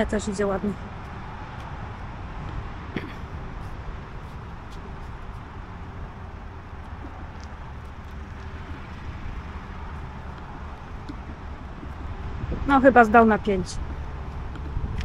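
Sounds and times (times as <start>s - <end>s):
low background rumble: 0.0s - 15.0s
car engine running at low revs: 0.1s - 15.0s.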